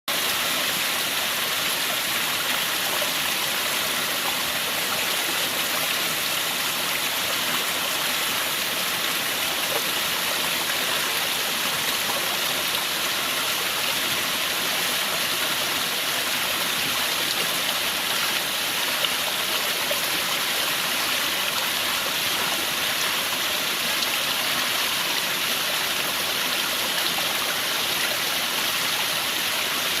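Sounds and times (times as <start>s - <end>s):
stream rushing and splashing: 0.1s - 30.0s.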